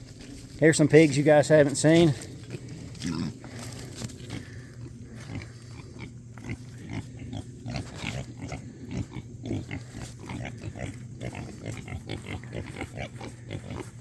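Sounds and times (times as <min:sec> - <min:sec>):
low steady hum: 0:00.0 - 0:14.0
pigs grunting: 0:01.9 - 0:14.0.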